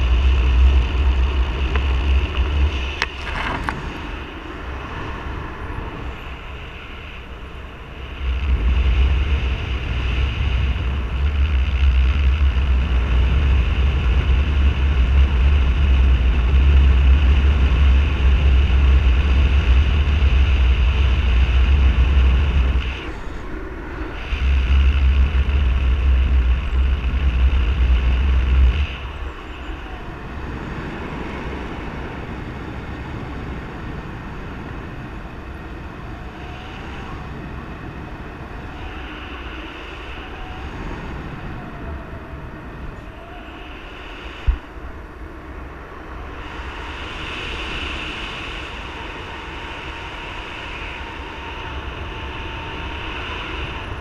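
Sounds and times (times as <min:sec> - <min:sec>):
steady rush of air: 0:00.0 - 0:54.0
wind buffeting microphone: 0:00.0 - 0:54.0.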